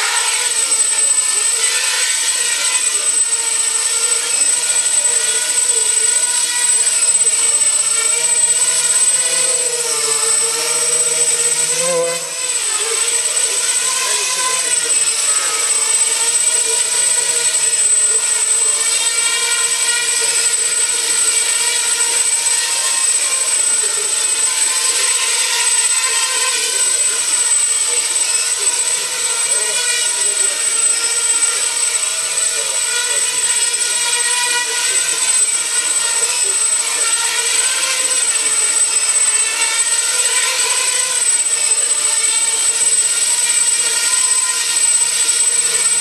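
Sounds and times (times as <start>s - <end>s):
drone motors whining: 0.0s - 46.0s.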